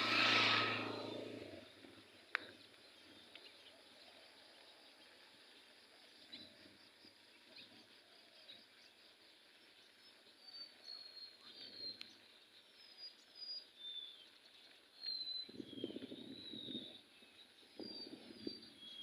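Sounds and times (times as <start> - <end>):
faint outdoor background hiss: 0.0 - 19.0.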